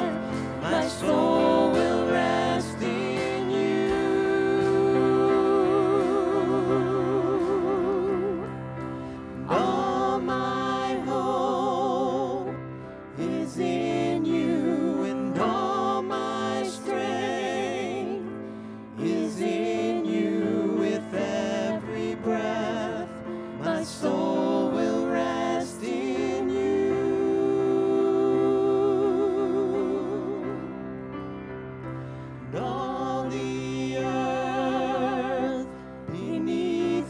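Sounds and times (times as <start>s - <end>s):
women singing in harmony: 0.0s - 30.9s, 32.6s - 37.0s
instrumental accompaniment: 0.0s - 37.0s.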